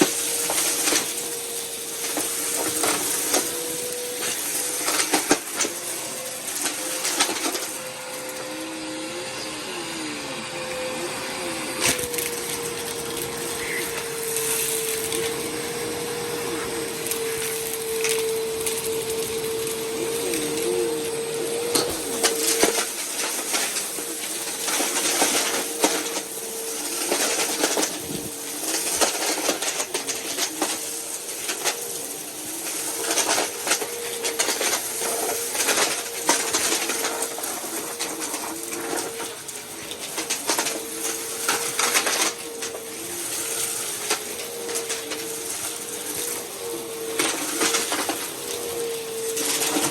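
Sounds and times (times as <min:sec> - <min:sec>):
debris crackling being sucked up: 0:00.0 - 0:09.5, 0:11.6 - 0:49.9
vacuum cleaner running: 0:00.0 - 0:49.9.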